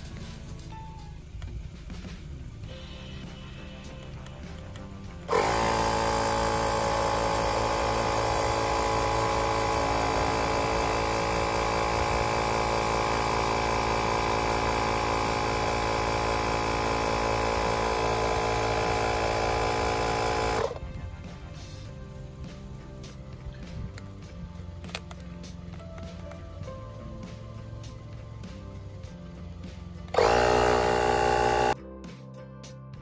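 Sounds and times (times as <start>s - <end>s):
electric air pump humming: 0.0s - 31.8s.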